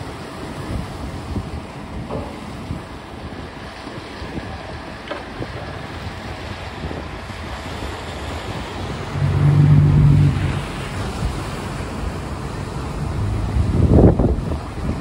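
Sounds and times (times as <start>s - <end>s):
outboard boat engines: 0.0s - 15.0s
water rumble: 0.0s - 15.0s
wind on microphone: 0.4s - 15.0s.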